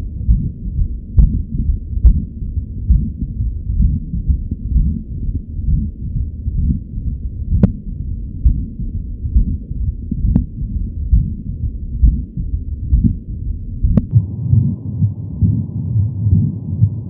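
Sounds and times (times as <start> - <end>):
muffled heartbeat: 0.0 - 17.0.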